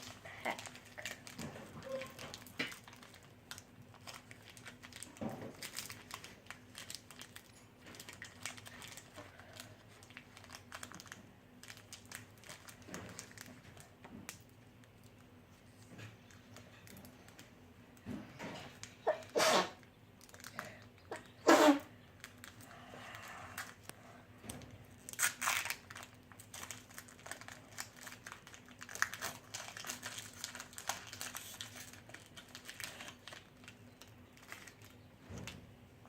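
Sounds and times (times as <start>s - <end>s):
foil wrapper crinkling and tearing: 0.0s - 17.6s, 18.6s - 35.6s.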